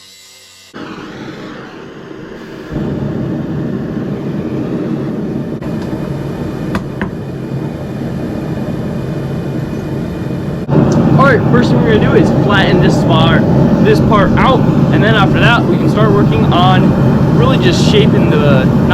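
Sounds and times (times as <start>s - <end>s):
forge roaring: 0.8s - 18.9s.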